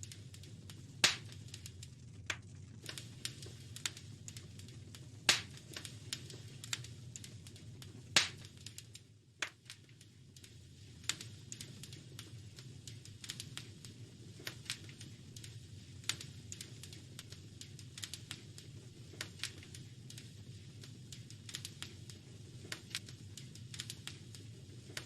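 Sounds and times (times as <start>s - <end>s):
low fire rumble: 0.0s - 25.0s
wood fire crackling and popping: 0.0s - 25.0s.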